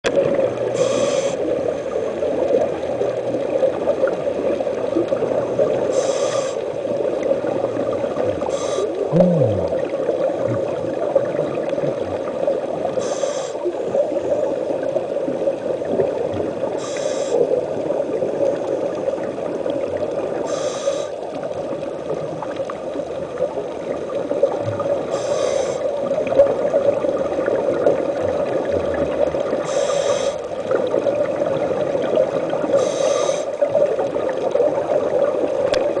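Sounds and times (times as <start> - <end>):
steady underwater hum: 0.0 - 36.0
exhaled bubbles underwater: 0.1 - 36.0.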